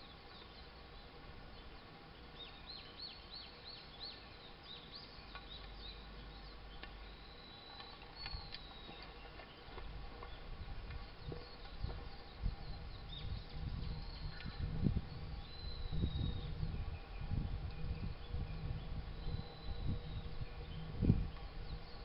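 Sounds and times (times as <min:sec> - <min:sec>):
small bird singing: 0:00.0 - 0:22.0.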